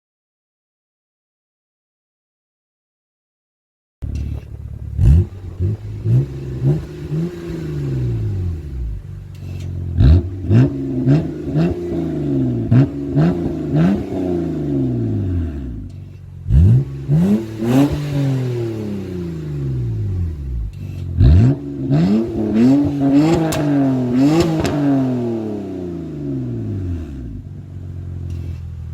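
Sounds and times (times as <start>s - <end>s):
car engine revving: 4.0s - 28.9s.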